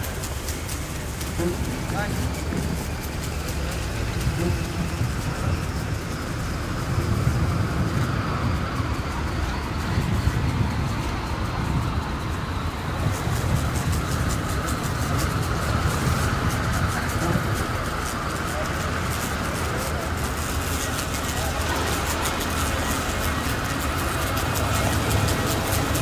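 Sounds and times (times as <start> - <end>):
faint rattling ticks: 0.0 - 26.0
vehicle rumbling in motion: 0.0 - 26.0.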